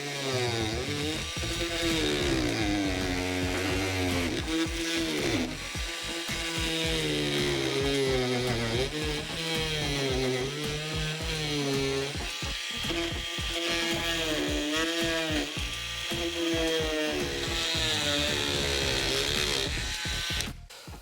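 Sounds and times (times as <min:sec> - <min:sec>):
background music with beat: 0:01.3 - 0:21.0.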